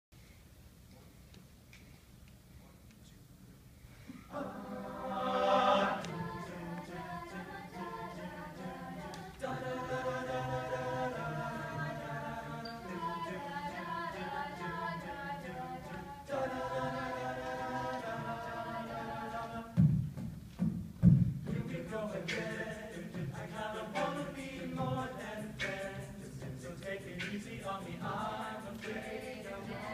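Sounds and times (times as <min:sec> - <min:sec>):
a cappella group singing chords: 0:04.2 - 0:20.0, 0:21.4 - 0:29.9.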